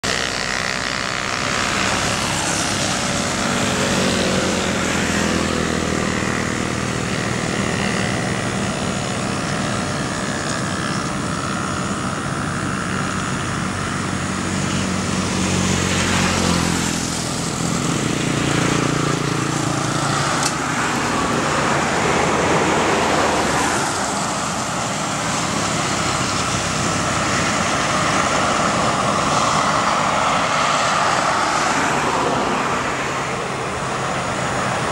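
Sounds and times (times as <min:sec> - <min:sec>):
distant jet engines rumbling: 0:00.0 - 0:34.9.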